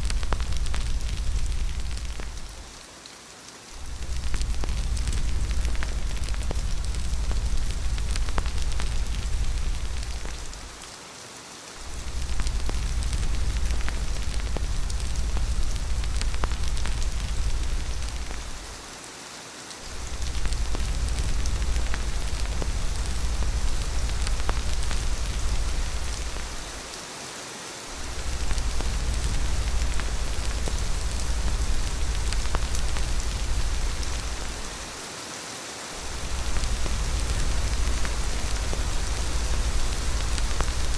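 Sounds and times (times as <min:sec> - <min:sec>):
deep low rumble: 0:00.0 - 0:02.6, 0:03.8 - 0:10.8, 0:11.8 - 0:18.8, 0:19.9 - 0:26.8, 0:28.0 - 0:34.9, 0:36.0 - 0:40.9
heavy rain hissing: 0:00.0 - 0:40.9.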